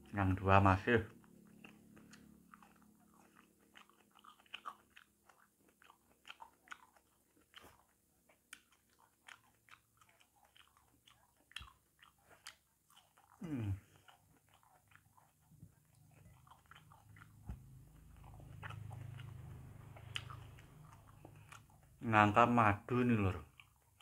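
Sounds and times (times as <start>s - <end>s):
chewing with mouth clicks: 0.0s - 24.0s.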